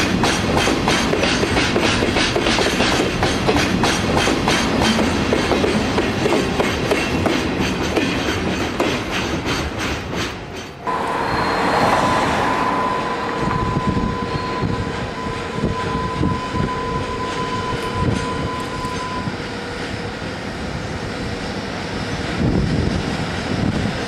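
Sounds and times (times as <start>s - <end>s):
freight train whine: 0.0s - 24.0s
train rumble: 0.0s - 24.0s.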